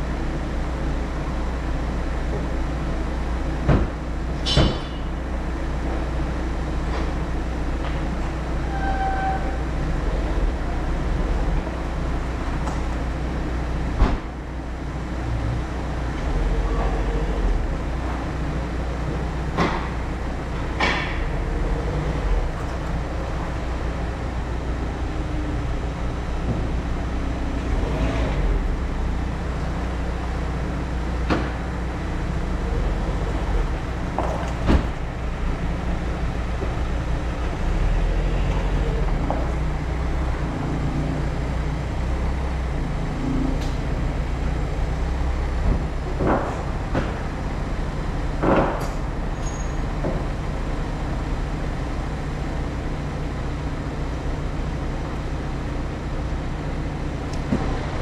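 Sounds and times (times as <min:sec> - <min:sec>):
low mechanical rumble: 0:00.0 - 0:58.0.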